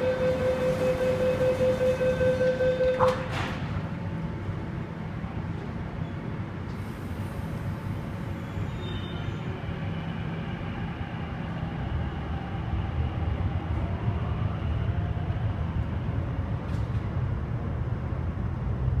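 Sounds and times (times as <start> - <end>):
train rumbling in tunnel: 0.0 - 19.0.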